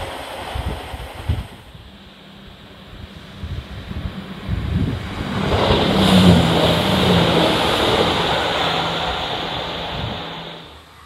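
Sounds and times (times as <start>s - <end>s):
wind buffeting microphone: 0.0s - 10.8s
diesel train engines humming: 0.0s - 11.0s
wheel-on-rail noise: 0.0s - 11.0s.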